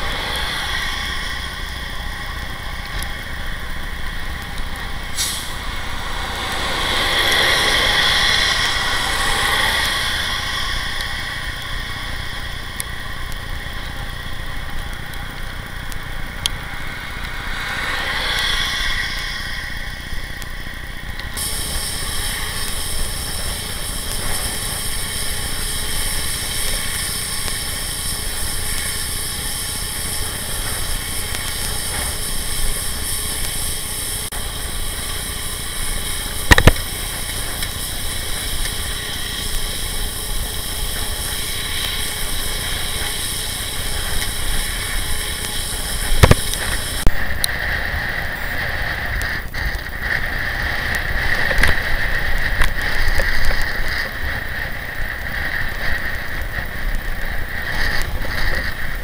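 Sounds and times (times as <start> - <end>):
wind rushing: 0.0 - 14.4, 15.5 - 56.7
bicycle road noise: 0.0 - 59.0.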